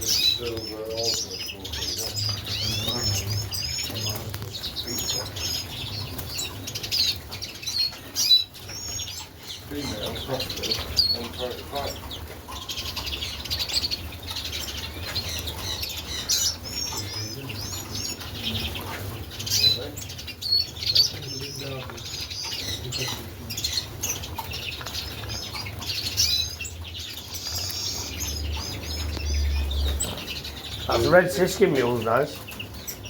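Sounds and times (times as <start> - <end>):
finches chirping and twittering: 0.0 - 33.0
wings fluttering in cages: 0.0 - 33.0.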